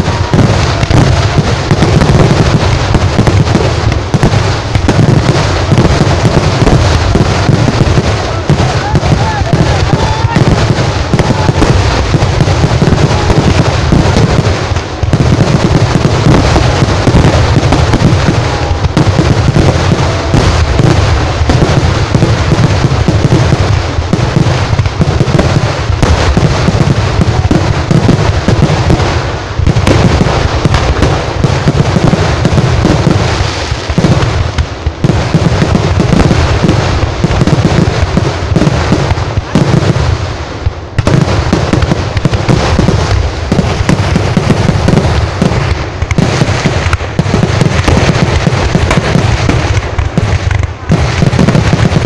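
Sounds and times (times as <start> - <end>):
fireworks bangs and crackling: 0.0 - 52.0
rockets going up: 0.0 - 52.0
shells bursting overhead: 0.0 - 52.0.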